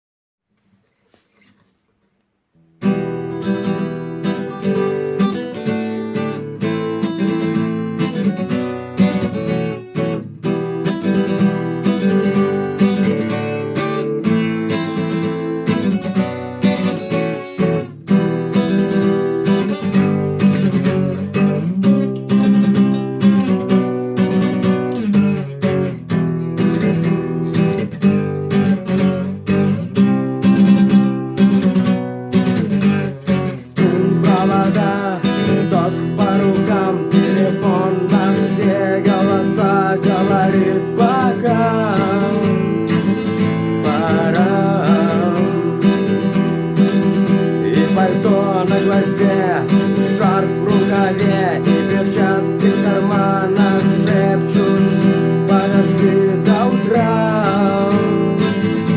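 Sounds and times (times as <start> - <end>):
acoustic guitar strumming chords: 2.6 - 58.9.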